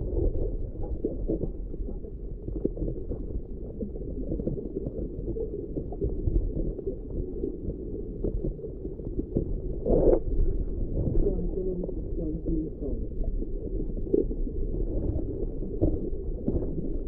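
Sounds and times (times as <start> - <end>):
muffled underwater rumbling: 0.0 - 17.0.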